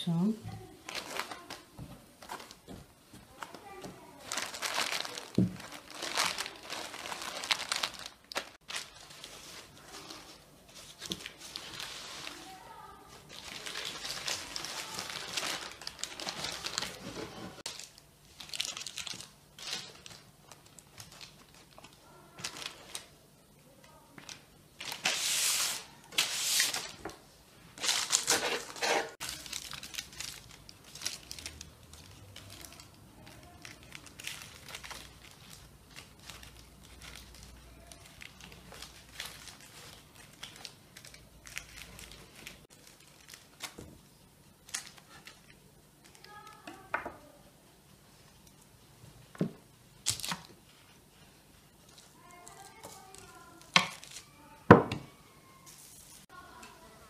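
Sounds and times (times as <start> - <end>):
wrapping crinkling: 0.6 - 23.2, 23.8 - 46.9, 50.0 - 54.6.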